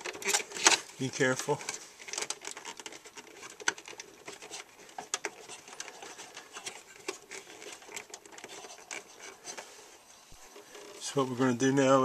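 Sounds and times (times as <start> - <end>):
plastic clicks and rubbing: 0.0 - 12.0.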